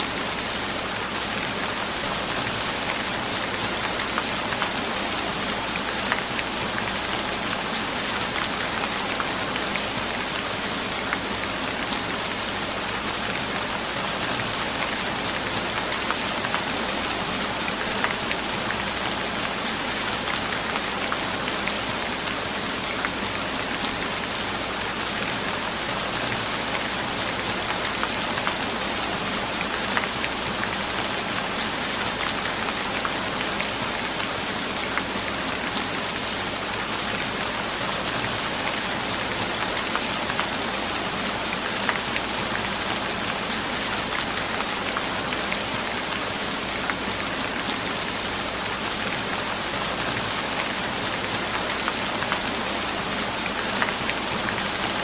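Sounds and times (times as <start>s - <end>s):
steady rain falling: 0.0s - 55.0s
raindrops pattering on a surface: 0.1s - 55.0s.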